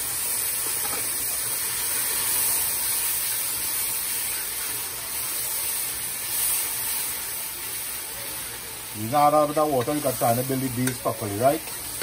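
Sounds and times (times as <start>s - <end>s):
water sizzling in hot oil: 0.0s - 12.0s.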